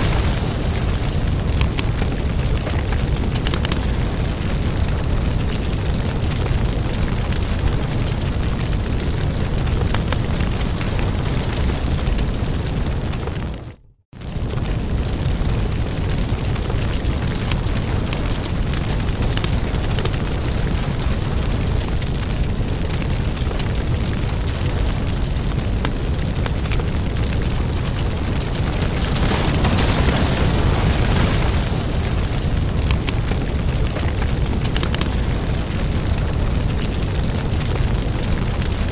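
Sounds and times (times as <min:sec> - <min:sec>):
fire crackles and pops: 0:00.0 - 0:38.9
fireplace flames rumbling: 0:00.0 - 0:38.9.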